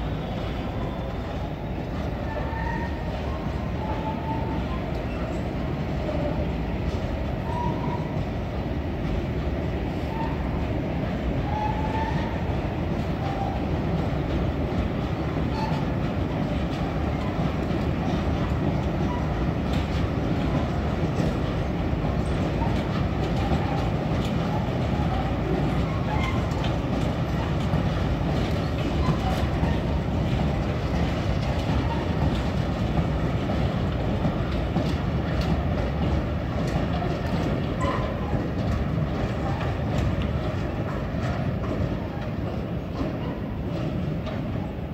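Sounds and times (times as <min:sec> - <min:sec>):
train rumbling past: 0:00.0 - 0:44.9
wheels clicking over rail joints: 0:01.8 - 0:44.9.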